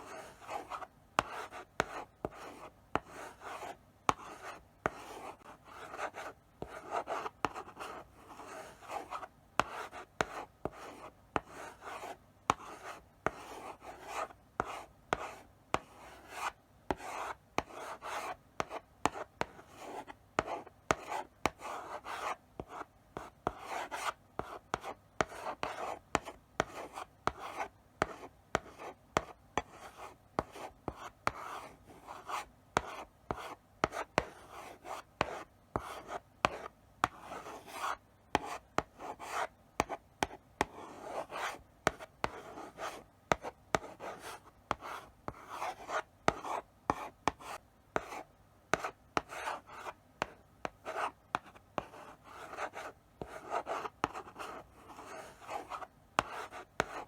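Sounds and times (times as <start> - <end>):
chalk scratching on blackboard: 0.0 - 57.0
chalk tapping on board: 0.1 - 31.6, 32.2 - 57.0.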